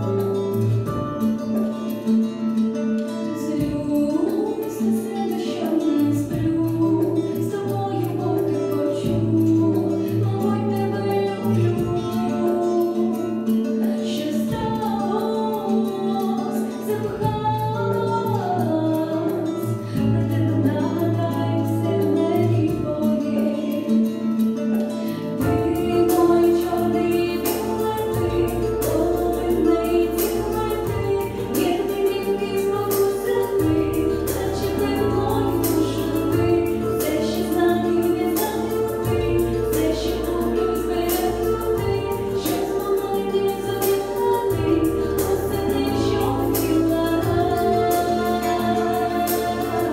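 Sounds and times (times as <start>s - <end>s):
instrumental accompaniment: 0.0s - 49.9s
woman singing into microphone: 3.1s - 49.9s.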